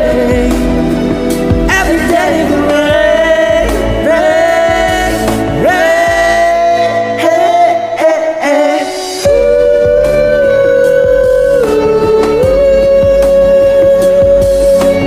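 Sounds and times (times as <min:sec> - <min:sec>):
karaoke singing: 0:00.0 - 0:15.0
pop ballad backing track: 0:00.0 - 0:15.0.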